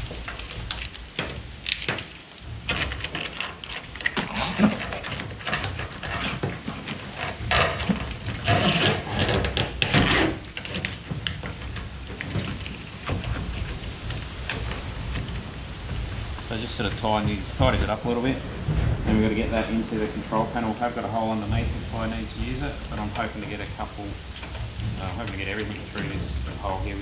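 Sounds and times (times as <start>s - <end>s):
plastic conduit rubbing and scraping: 0.0s - 27.0s.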